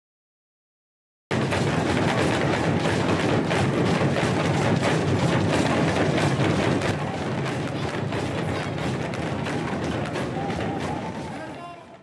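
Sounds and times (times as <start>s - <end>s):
talking drums played with sticks: 1.3s - 11.9s.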